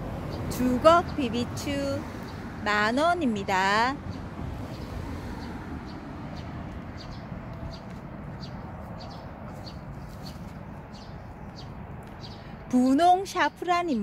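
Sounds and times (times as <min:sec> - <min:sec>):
small birds chirping: 0:00.3 - 0:14.0.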